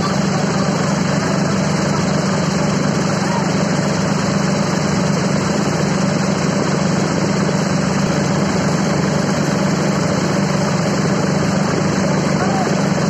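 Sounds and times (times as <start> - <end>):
fan rushing air: 0.0 - 13.0
tractor diesel engine running: 0.0 - 13.0.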